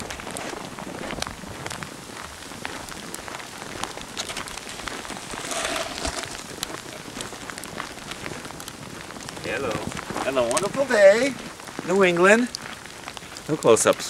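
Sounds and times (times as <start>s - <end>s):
snow ticking on microphone: 0.0s - 14.0s
steady snowstorm hiss: 0.0s - 14.0s.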